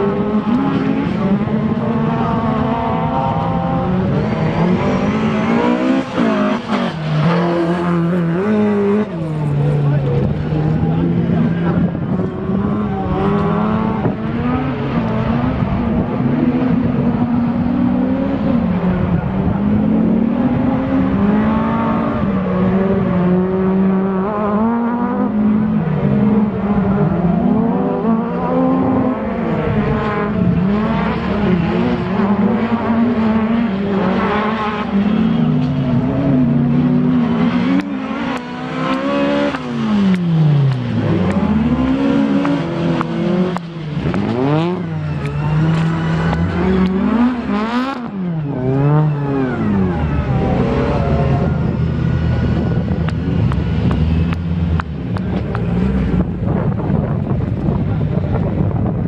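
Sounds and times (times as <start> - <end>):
race car engines revving: 0.0 - 59.0
race car passing close: 0.0 - 59.0.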